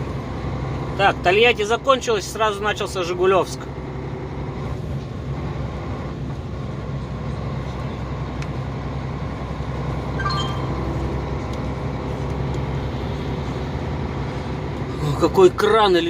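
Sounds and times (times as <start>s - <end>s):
truck engine and tyres droning: 0.0s - 16.0s.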